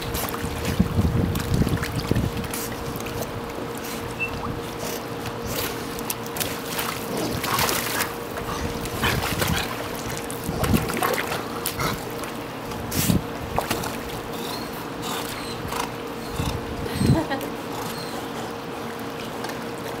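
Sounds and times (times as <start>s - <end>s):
dogs splashing in pool water: 0.0s - 20.0s.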